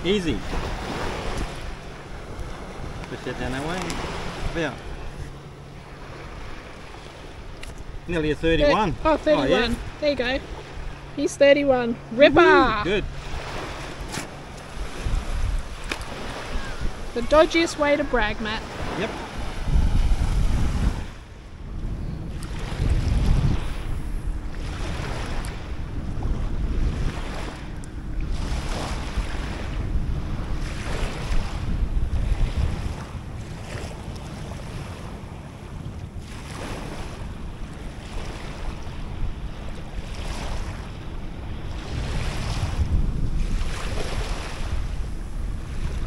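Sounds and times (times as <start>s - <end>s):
small waves washing on shore: 0.0s - 46.0s
wind buffeting microphone: 0.0s - 46.0s.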